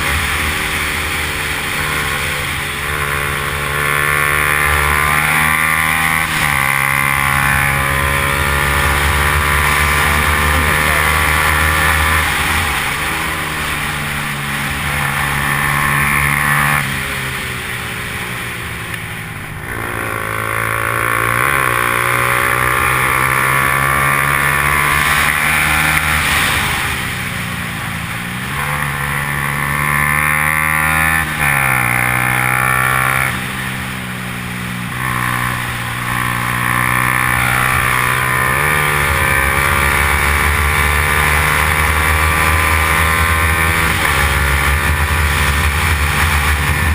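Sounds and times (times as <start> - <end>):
motorcycle engine running hard: 0.0 - 46.9.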